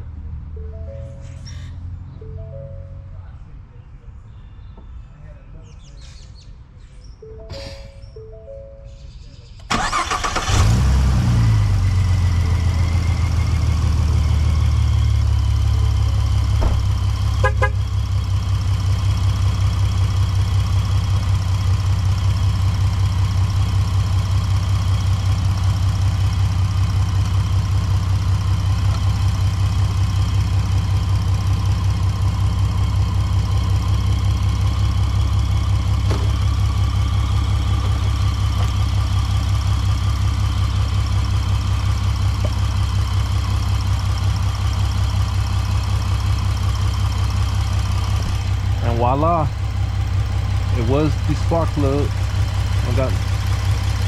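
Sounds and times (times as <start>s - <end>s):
car engine idling: 9.6s - 54.0s.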